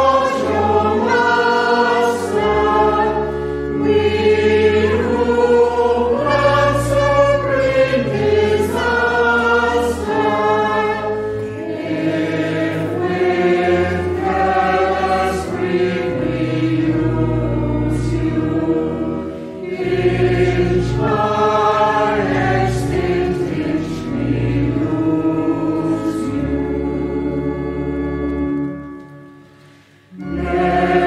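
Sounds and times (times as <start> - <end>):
group singing a hymn: 0.0 - 28.6, 29.7 - 31.0
sustained low accompaniment: 0.0 - 31.0.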